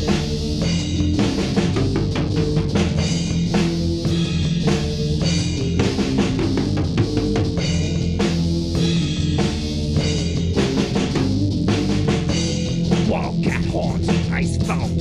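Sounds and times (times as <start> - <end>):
drum kit beat: 0.0 - 15.0
hard rock instrumental: 0.0 - 15.0.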